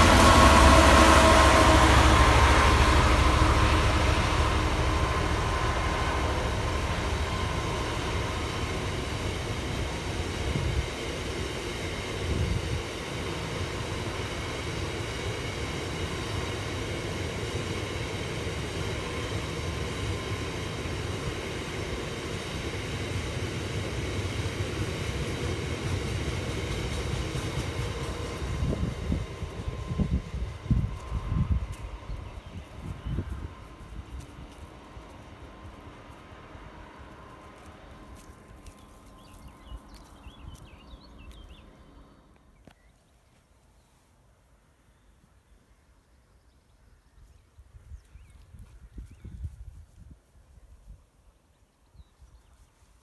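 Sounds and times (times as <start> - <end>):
diesel locomotive engine: 0.0 - 53.0.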